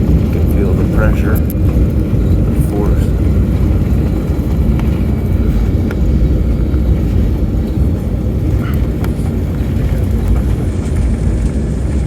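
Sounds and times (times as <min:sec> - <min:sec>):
aircraft engine noise: 0:00.0 - 0:12.0
wheels running on runway: 0:00.0 - 0:12.0.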